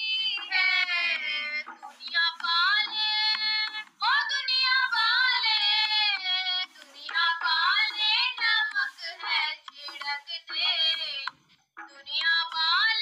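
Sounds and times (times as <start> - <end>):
high-pitched voice singing: 0.0 - 13.0.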